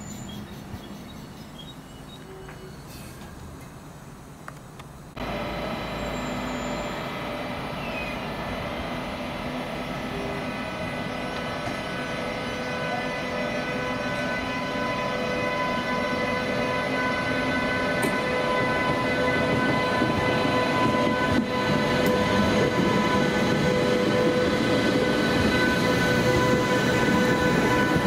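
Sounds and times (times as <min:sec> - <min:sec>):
electric locomotive whining: 0:05.2 - 0:28.0.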